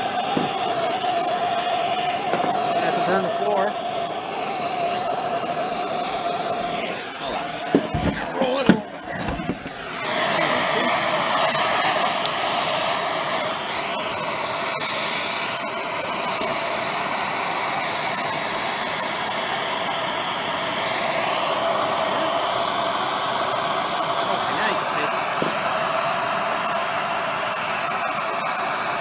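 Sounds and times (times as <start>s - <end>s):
gas torch hissing: 0.0s - 29.0s.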